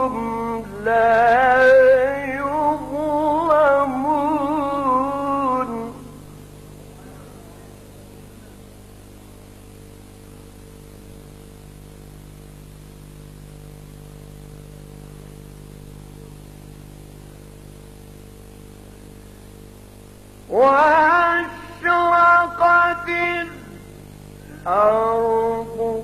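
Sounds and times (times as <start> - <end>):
electrical hum: 0.0 - 26.0
sound system hiss: 0.0 - 26.0.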